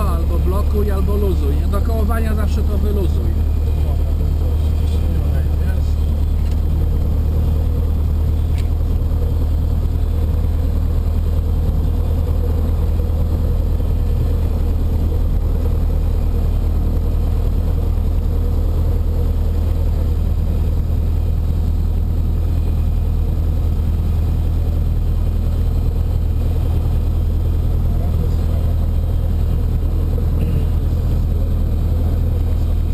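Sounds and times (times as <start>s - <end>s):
aircraft engine and propeller idling: 0.0s - 32.9s.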